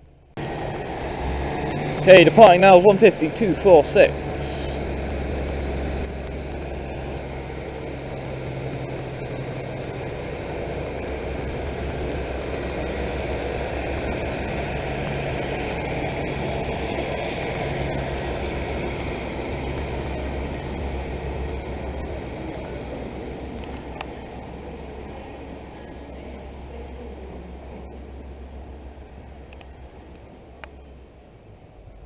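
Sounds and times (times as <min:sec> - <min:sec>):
diesel train engine rumbling: 0:00.0 - 0:32.0.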